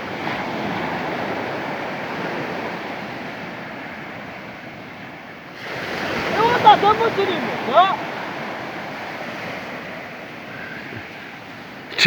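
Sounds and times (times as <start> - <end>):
sea wave rushing: 0.0 - 12.0.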